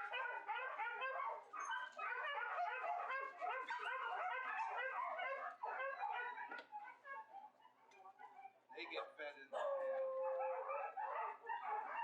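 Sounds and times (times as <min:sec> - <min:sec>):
dogs barking and howling: 0:00.0 - 0:12.0.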